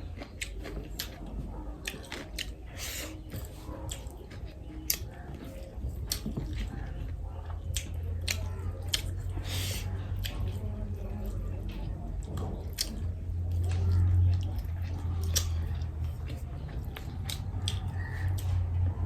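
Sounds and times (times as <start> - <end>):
wet chewing and lip smacks: 0.0 - 18.9.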